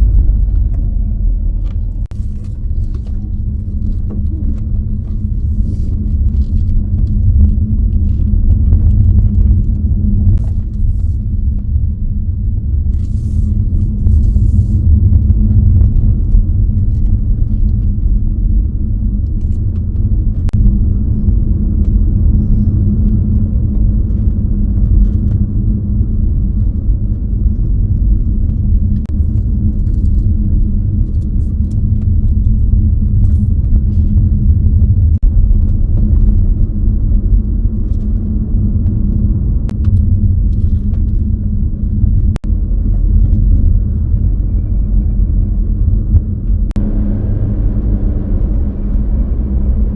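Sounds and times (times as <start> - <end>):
car engine and tyre rumble: 0.0 - 49.9.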